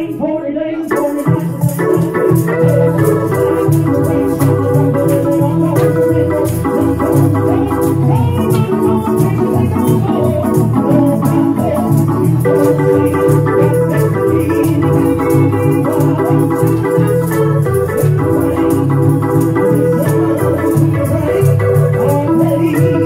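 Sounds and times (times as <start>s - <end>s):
bass line: 0.0s - 23.0s
gospel organ music: 0.0s - 23.0s
percussion beat: 0.0s - 23.0s.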